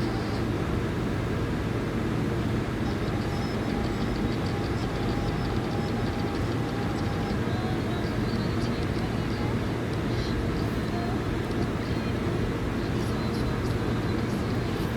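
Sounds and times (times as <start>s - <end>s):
phone call static hiss: 0.0s - 14.9s.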